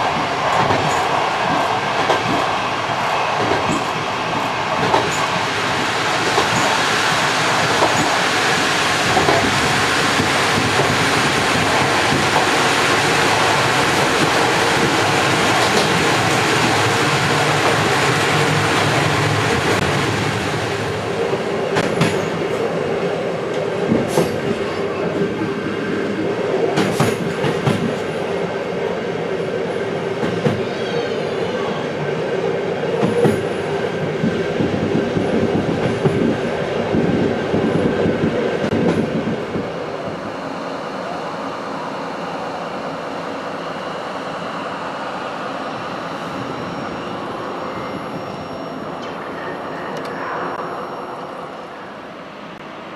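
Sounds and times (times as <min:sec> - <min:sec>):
train rumbling on rails: 0:00.0 - 0:52.9.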